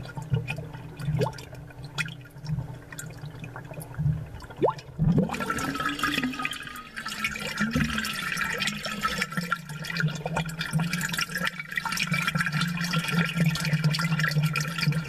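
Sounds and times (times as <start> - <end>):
aquarium air bubbles popping: 0.0 - 15.0.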